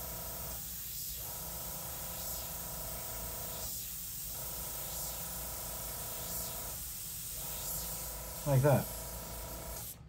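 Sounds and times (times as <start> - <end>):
airbrush hissing: 0.0 - 10.0.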